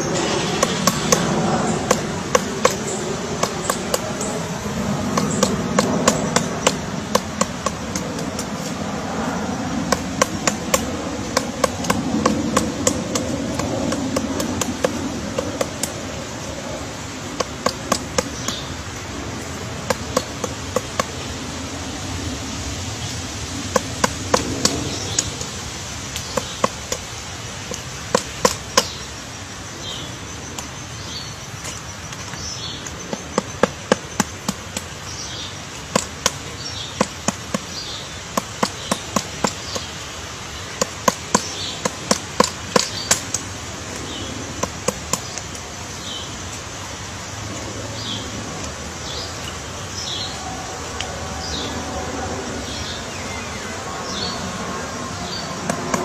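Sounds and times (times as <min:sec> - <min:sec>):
woodpecker chiselling wood: 0:00.0 - 0:56.0.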